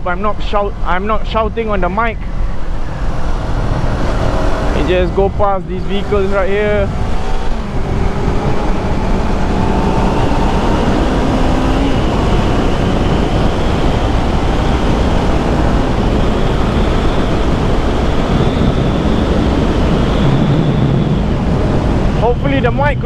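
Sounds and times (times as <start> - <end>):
motorcycle engine revving: 0.0 - 23.0
wind rumble on microphone: 0.0 - 23.0.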